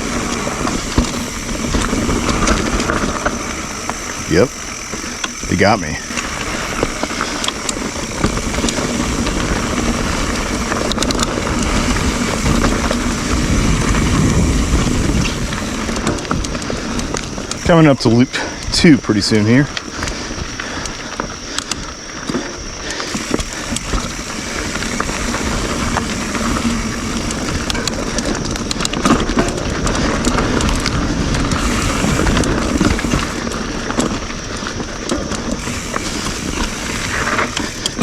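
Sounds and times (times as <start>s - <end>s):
bike tyres on dirt and rock: 0.0s - 38.0s
wind rumble: 0.0s - 38.0s.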